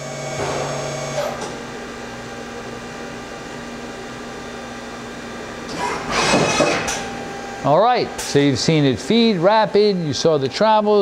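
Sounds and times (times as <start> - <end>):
machine electrical hum: 0.0 - 11.0.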